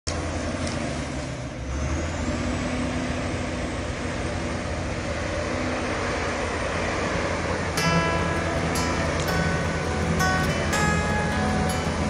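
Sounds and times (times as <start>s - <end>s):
bulldozer engine running: 0.1s - 12.0s.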